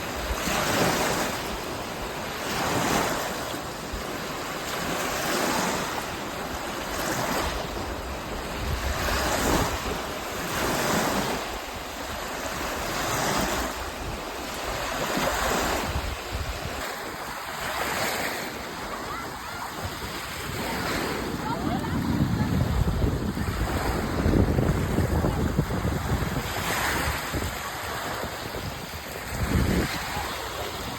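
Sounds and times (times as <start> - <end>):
waves washing onto a beach: 0.0 - 30.9.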